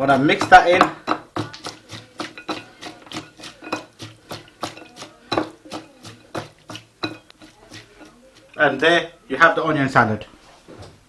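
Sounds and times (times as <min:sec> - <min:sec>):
utensil scraping a dish: 0:00.0 - 0:09.2.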